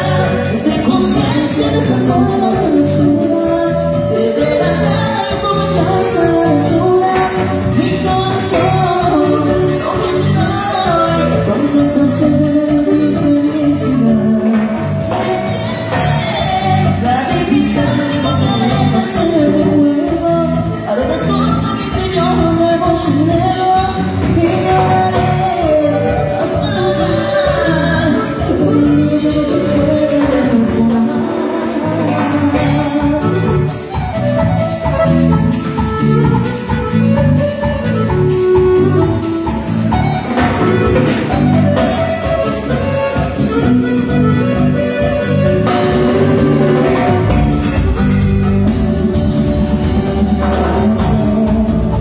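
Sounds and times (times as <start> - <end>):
person singing lead vocal: 0.0 - 35.0, 36.2 - 52.0
accordion: 0.0 - 52.0
drum kit: 0.0 - 52.0
electric guitars: 0.0 - 52.0
heavy bass: 0.0 - 52.0
keyboards: 0.0 - 52.0
live cumbia band playing: 0.0 - 52.0.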